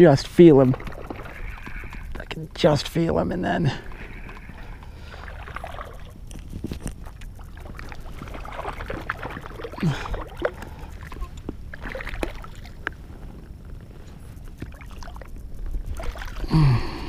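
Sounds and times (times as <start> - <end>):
wind rumble on microphone: 0.0 - 17.0
fish splashing: 0.4 - 2.2, 3.7 - 13.6, 14.3 - 17.0.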